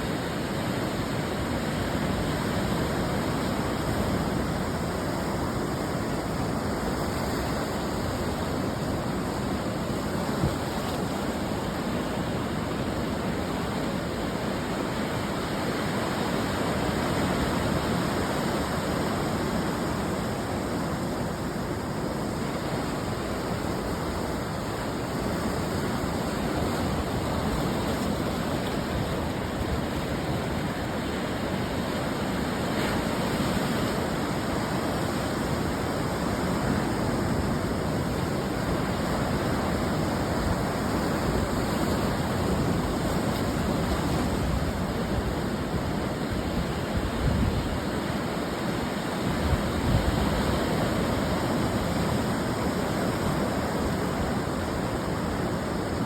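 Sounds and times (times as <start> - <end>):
ocean surf washing on shore: 0.0 - 56.0.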